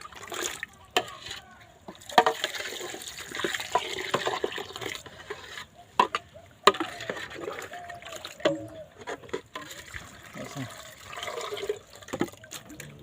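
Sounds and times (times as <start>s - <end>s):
water pouring and sloshing: 0.0s - 13.0s.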